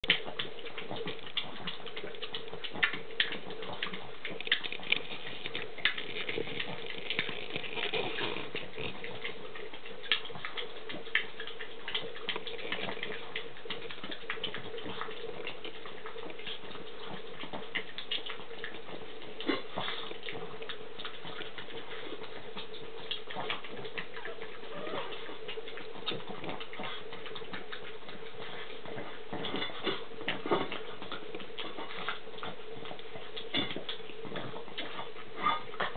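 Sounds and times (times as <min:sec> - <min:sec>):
light scratches and clicks: 0:00.0 - 0:35.9
puppies squeaking and grunting: 0:00.0 - 0:35.9
steady hum: 0:00.0 - 0:35.9.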